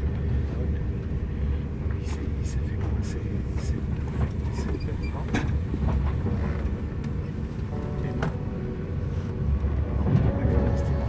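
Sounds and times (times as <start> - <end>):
vehicle cabin rumble: 0.0 - 11.0.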